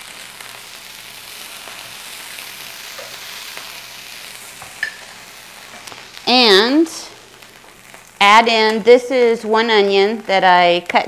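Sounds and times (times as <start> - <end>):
oil sizzling in a skillet: 0.0 - 11.0.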